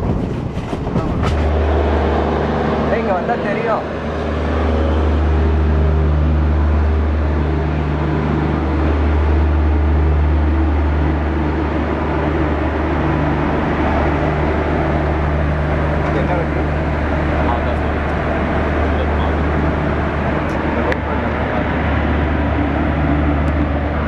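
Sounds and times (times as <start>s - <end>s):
train running hum and rumble: 0.0s - 24.0s.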